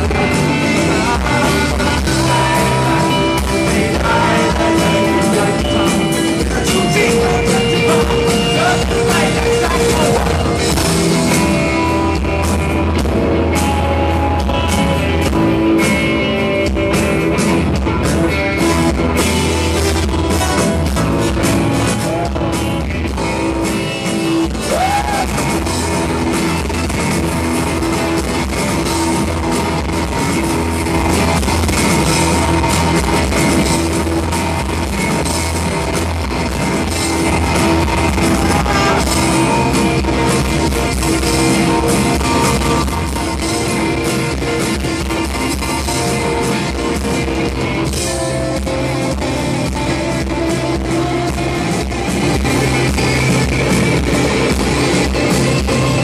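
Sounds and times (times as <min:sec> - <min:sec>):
rock band playing live: 0:00.0 - 0:56.0
sustained guitar chords: 0:00.0 - 0:56.0.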